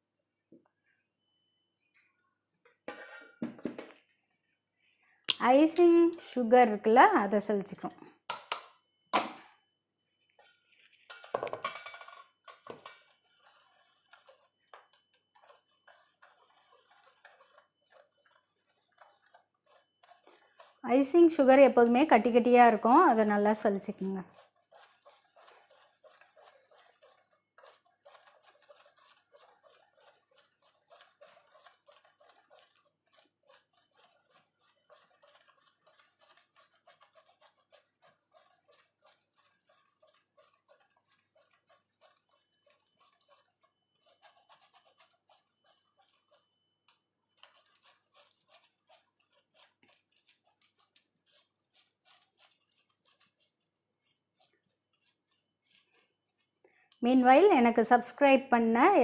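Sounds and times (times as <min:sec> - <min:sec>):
whisk scratching sugar in sieve: 0:05.5 - 0:07.9, 0:10.5 - 0:59.0.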